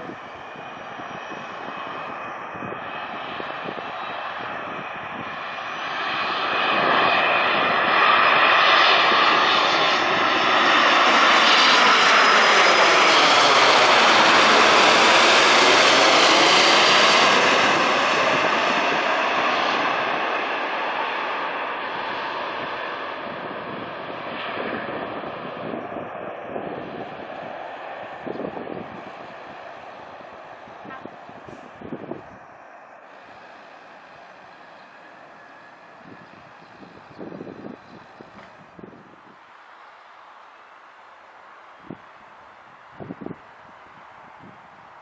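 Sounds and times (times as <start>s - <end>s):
jet airliner passing low overhead: 0.0s - 45.0s.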